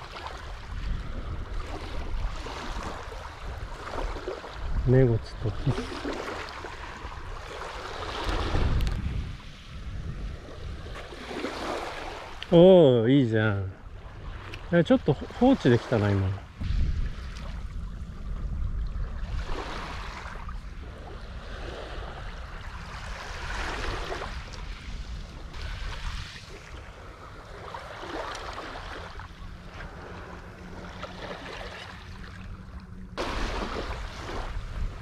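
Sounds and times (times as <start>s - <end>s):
small waves washing on shore: 0.0s - 35.0s
wind rumbling on microphone: 0.0s - 35.0s.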